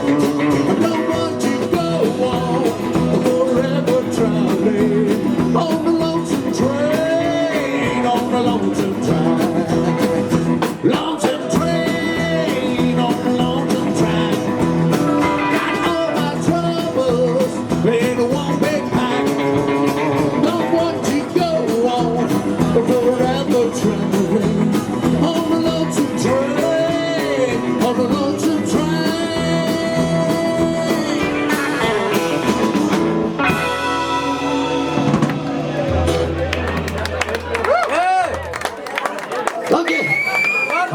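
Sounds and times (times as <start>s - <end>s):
person singing: 0.0s - 36.4s
rockabilly band playing: 0.0s - 40.9s.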